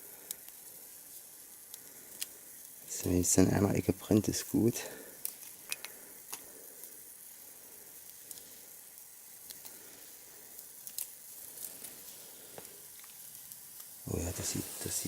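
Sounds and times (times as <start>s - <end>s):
campfire hissing: 0.0s - 15.0s
fire crackles: 0.0s - 15.0s.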